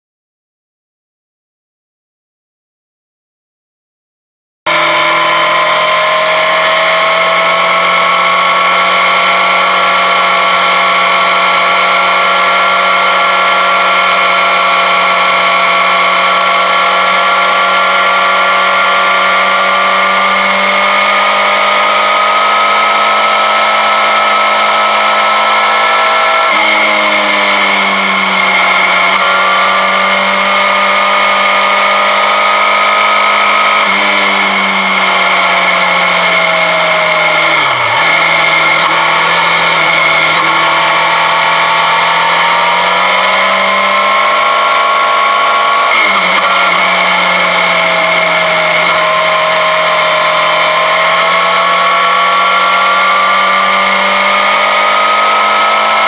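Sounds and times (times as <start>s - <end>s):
motorcycle engine whine: 4.7s - 56.0s.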